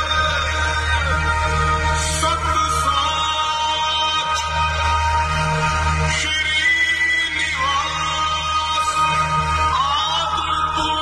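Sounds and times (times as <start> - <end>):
song with wavering sung melody: 0.0 - 11.0.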